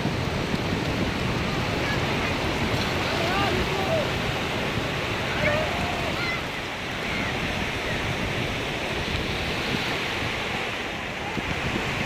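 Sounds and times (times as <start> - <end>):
sea surf washing onto beach: 0.0 - 12.0
wind on microphone: 0.0 - 12.0.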